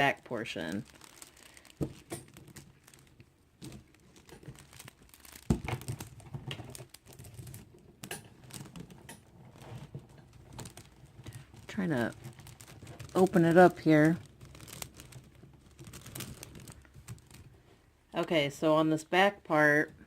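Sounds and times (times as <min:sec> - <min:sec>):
plastic beads rustling and clicking: 0:00.2 - 0:17.8.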